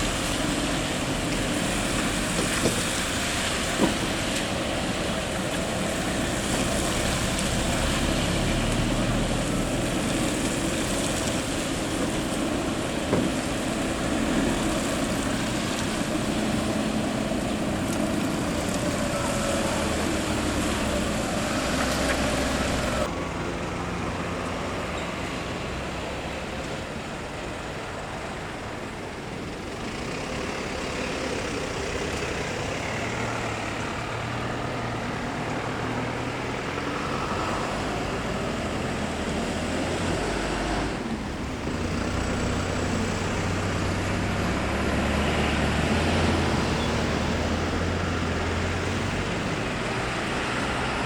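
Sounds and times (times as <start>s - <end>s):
fire trucks driving past: 0.0s - 51.0s.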